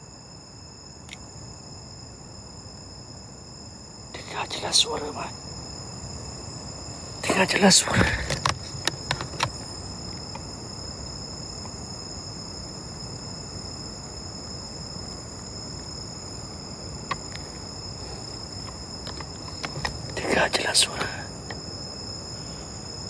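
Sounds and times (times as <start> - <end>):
background hiss: 0.0 - 23.0
insects droning: 0.0 - 23.0.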